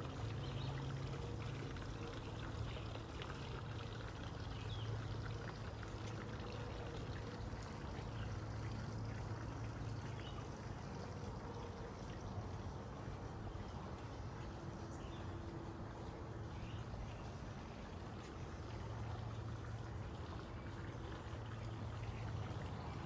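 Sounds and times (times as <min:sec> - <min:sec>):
low steady hum: 0:00.0 - 0:23.0
running water trickling: 0:00.0 - 0:23.0.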